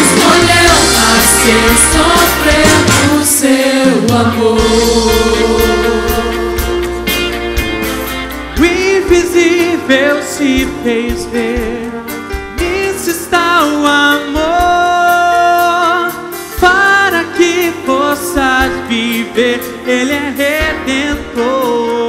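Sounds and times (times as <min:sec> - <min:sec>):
choir and band chords: 0:00.0 - 0:22.0
drum beats: 0:00.0 - 0:22.0.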